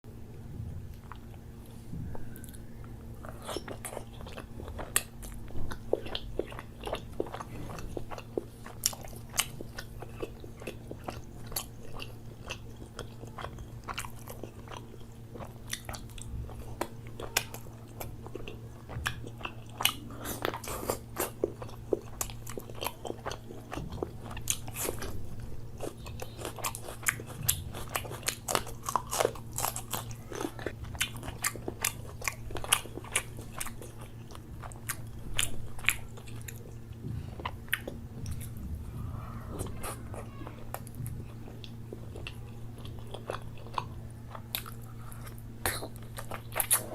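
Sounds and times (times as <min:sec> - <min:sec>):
low steady hum: 0:00.0 - 0:46.9
person chewing and biting food: 0:00.9 - 0:46.9.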